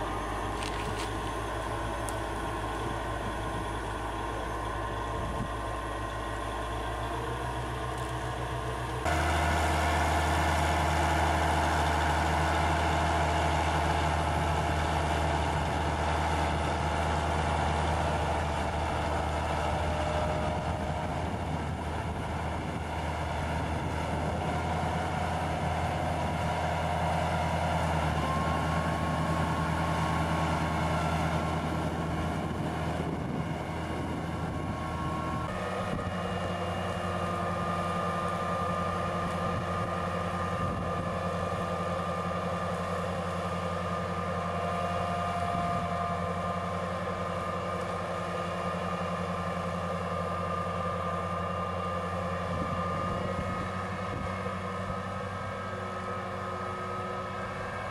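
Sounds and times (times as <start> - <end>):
heavy machine engine running: 0.0 - 57.9.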